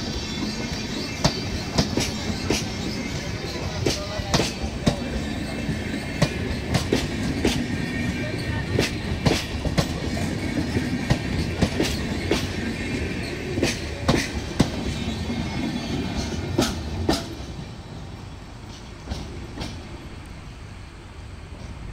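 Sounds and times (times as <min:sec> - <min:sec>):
train wheels clicking over rail joints: 0:00.0 - 0:20.5
train rumble: 0:00.0 - 0:21.9.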